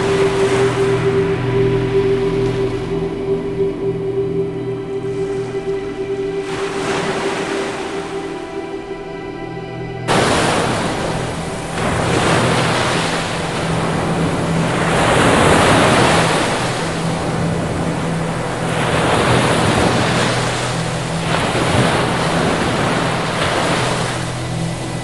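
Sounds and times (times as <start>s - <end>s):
ocean surf breaking: 0.0s - 2.9s, 5.0s - 9.1s, 10.0s - 25.0s.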